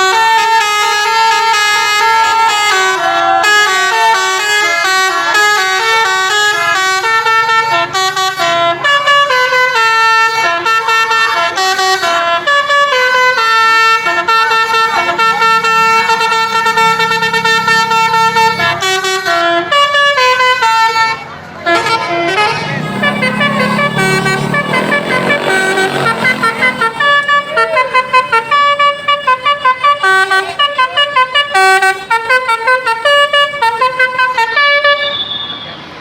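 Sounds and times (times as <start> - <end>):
multi-tone air horn playing a tune: 0.0 - 35.6.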